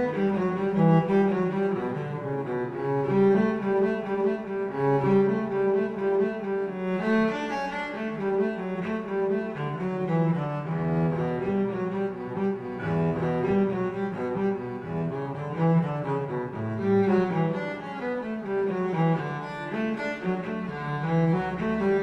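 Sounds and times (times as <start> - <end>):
low cello melody: 0.0 - 22.0.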